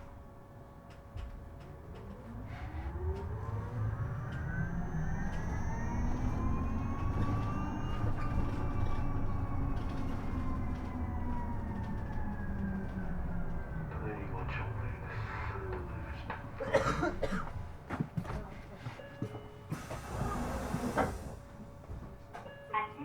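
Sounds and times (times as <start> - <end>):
electric bus motor whining: 0.0 - 22.5
road rumble: 1.4 - 22.4.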